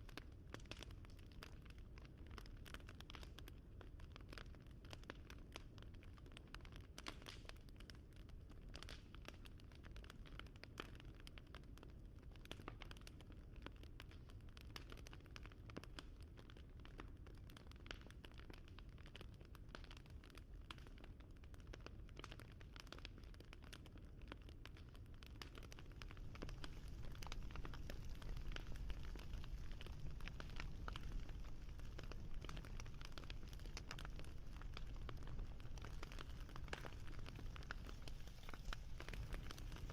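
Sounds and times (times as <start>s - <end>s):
low rumble of flame: 0.0s - 39.9s
wood fire crackling: 0.1s - 39.9s.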